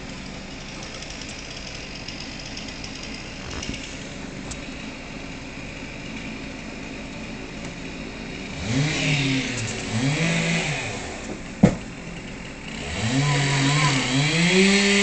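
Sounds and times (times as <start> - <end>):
chainsaw engine idling and revving: 0.0 - 15.0.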